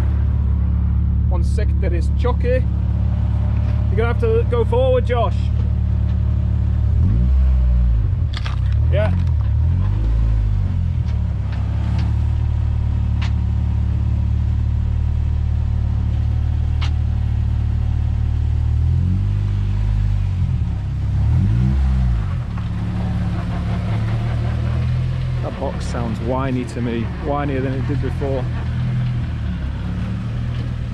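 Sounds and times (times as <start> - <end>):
car engine at low revs: 0.0 - 30.9.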